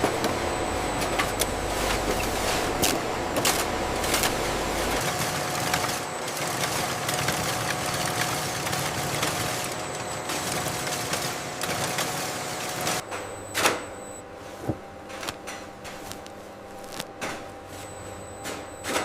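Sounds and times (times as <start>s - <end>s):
factory machinery running: 0.0s - 19.0s.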